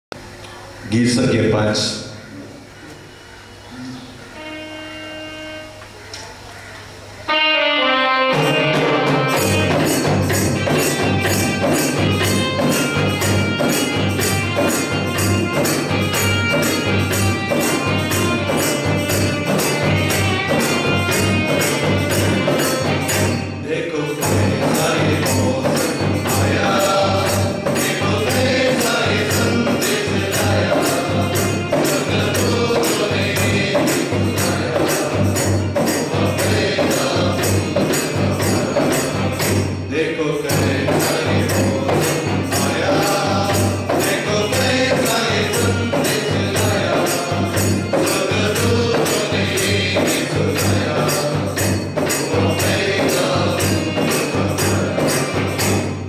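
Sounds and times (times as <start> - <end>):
men's choir singing: 7.3 - 56.0
tambourine: 8.3 - 56.0.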